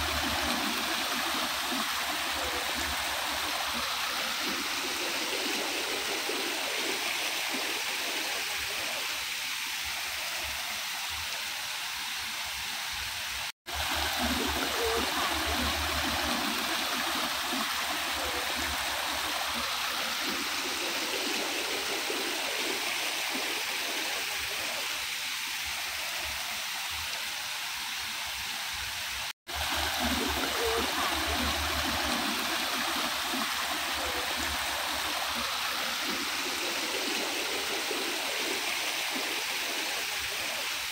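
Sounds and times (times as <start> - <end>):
stream splashing over rocks: 0.0 - 40.9.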